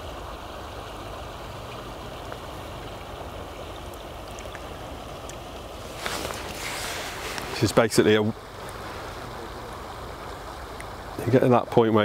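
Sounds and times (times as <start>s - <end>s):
river rushing over shallows: 0.0s - 12.0s.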